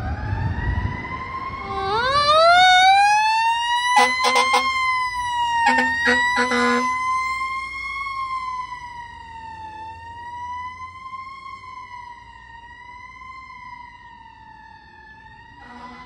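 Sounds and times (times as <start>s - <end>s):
fire engine siren wailing: 0.0s - 16.0s.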